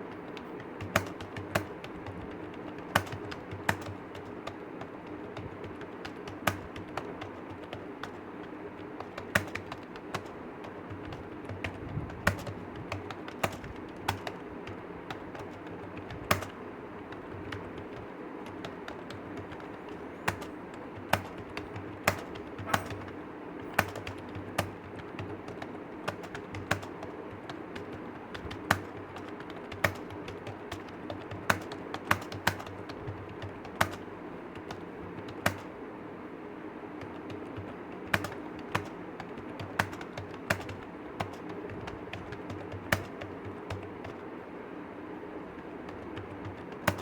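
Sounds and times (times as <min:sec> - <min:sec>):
typing on computer keyboard: 0:00.0 - 0:35.8, 0:37.0 - 0:44.2, 0:45.6 - 0:47.0.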